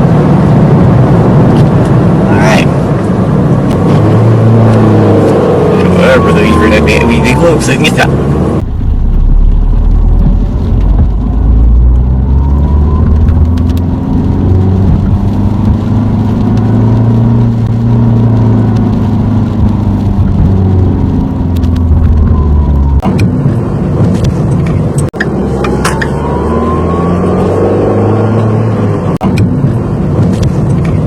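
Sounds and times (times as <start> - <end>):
car engine: 0.0 - 31.0
road noise inside car: 0.0 - 31.0.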